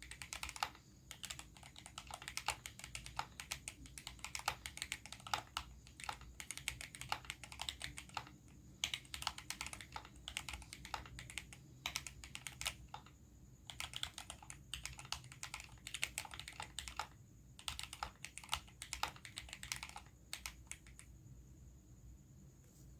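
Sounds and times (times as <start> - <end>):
mechanical keyboard typing: 0.0 - 21.1.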